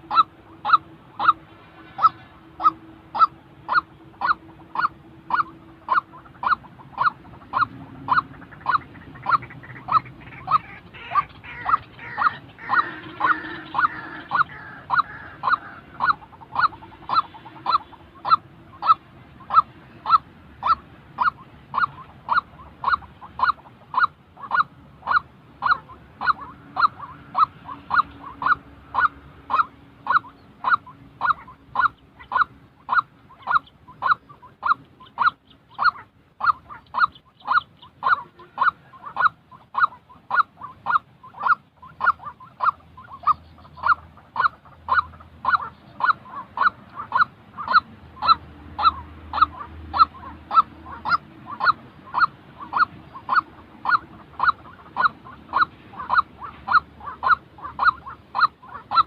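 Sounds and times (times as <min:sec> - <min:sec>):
waterhen clipped calls: 0:00.0 - 0:59.0.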